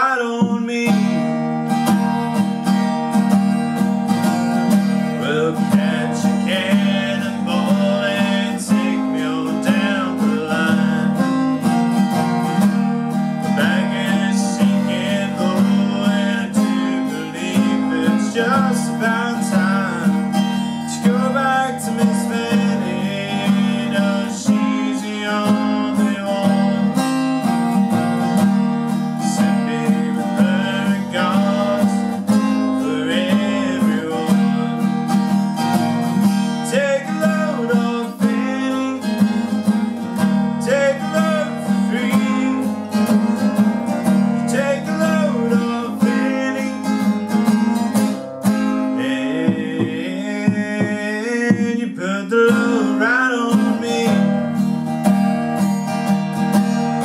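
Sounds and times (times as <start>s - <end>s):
man singing: 0.0s - 2.3s, 4.2s - 54.7s
acoustic guitar strumming: 0.0s - 57.0s.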